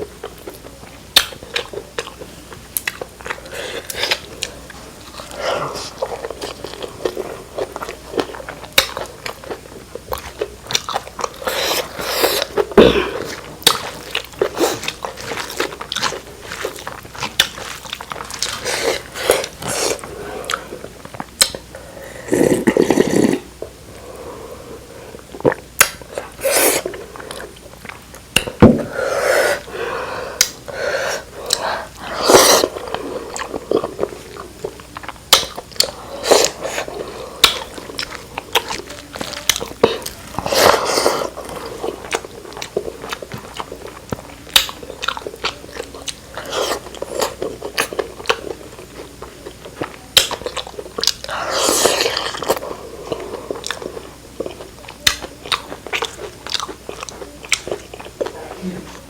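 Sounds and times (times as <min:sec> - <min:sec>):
close chewing and biting food: 0:00.0 - 0:59.0
food crunching: 0:00.0 - 0:59.0.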